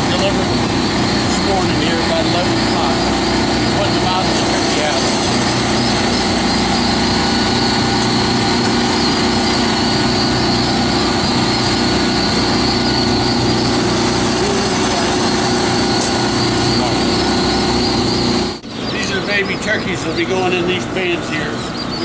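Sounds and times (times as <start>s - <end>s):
mechanical drone with hum: 0.0s - 22.0s
turkey chicks peeping: 0.0s - 22.0s.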